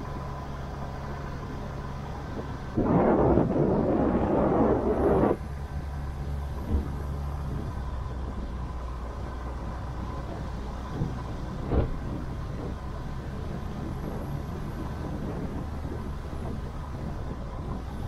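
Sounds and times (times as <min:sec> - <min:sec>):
road rumble: 0:00.0 - 0:18.0
vehicle engine running: 0:00.0 - 0:18.0.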